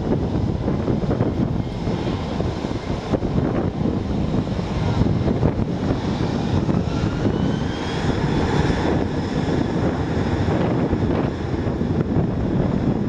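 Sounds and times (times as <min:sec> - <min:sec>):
jet engines roaring: 0:00.0 - 0:13.0
rising engine whine: 0:00.0 - 0:13.0.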